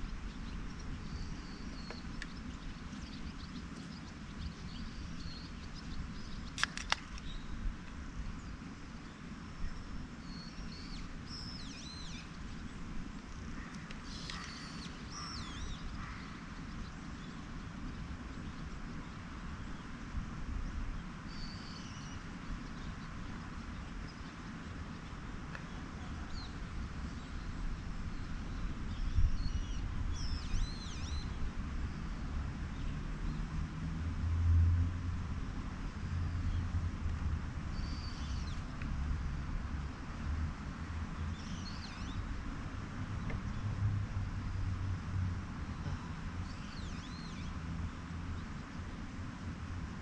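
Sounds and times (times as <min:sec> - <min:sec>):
small birds chirping: 0:00.0 - 0:33.5, 0:37.6 - 0:39.0, 0:39.9 - 0:43.8, 0:44.4 - 0:50.0.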